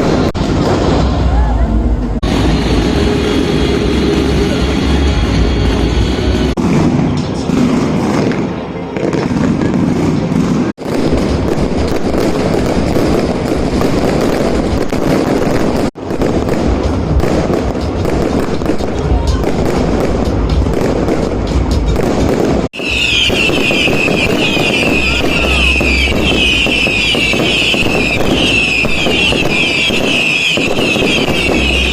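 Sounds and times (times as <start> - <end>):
firecrackers cracking and popping: 0.0 - 1.4, 6.4 - 31.9.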